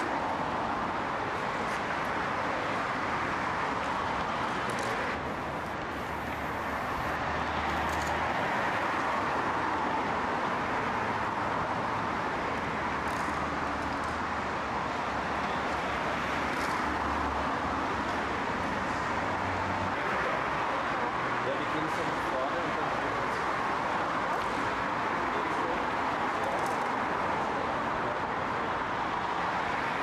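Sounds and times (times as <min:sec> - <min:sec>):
distant road traffic: 0:00.0 - 0:30.0.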